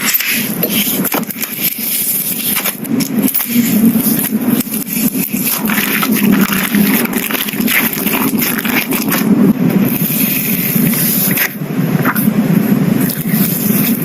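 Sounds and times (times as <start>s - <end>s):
slime squishing and crackling: 0.0s - 14.0s.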